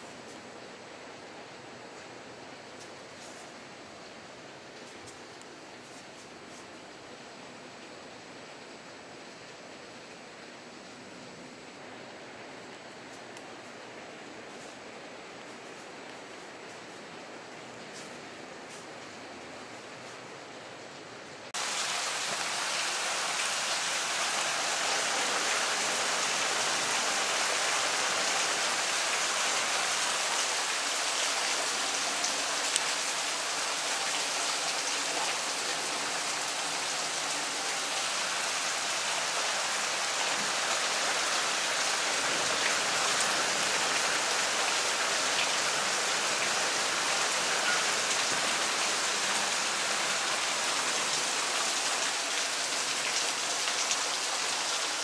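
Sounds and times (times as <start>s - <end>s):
heavy rain pouring: 9.0s - 55.0s.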